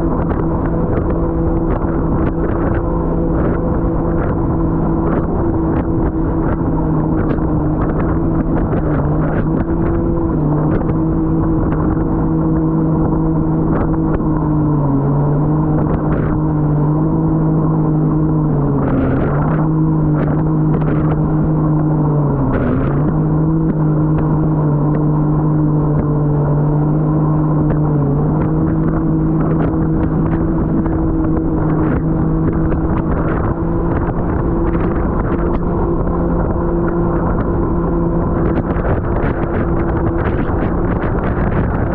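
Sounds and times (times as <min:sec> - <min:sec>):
jet ski engine running: 0:00.0 - 0:41.9
water wash: 0:00.0 - 0:41.9
wind noise: 0:00.0 - 0:41.9.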